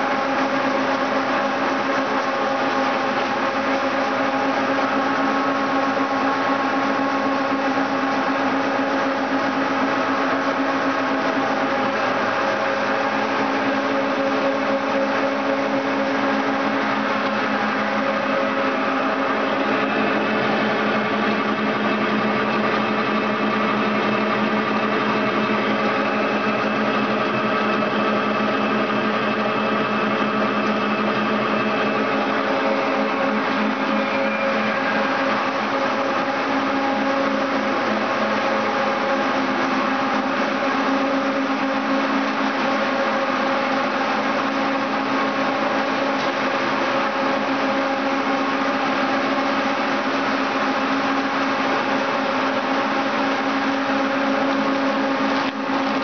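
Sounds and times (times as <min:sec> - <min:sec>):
processing machinery humming: 0:00.0 - 0:56.0.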